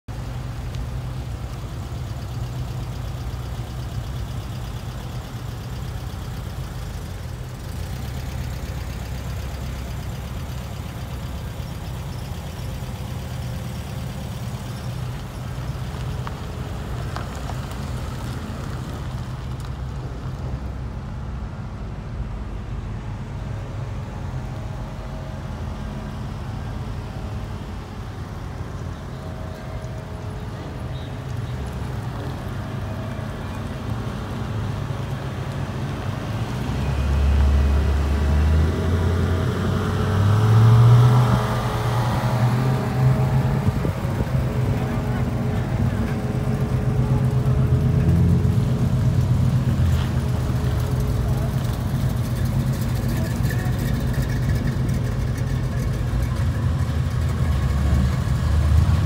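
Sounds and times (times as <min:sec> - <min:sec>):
cars passing at low speed: 0:00.1 - 0:59.0.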